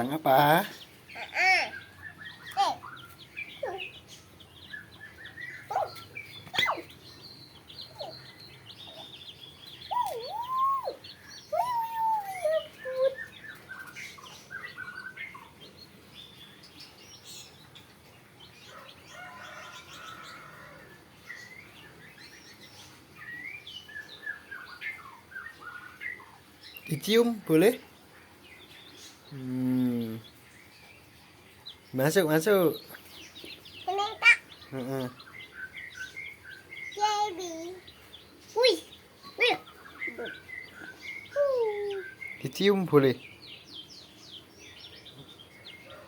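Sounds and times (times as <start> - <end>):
chicken chirping and calling: 0.0 - 27.3, 30.1 - 46.0.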